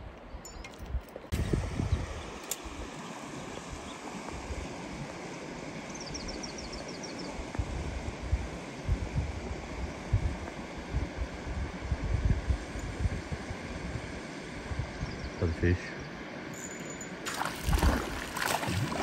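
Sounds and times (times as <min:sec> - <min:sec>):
creek water running: 0:01.2 - 0:16.5, 0:17.1 - 0:19.0.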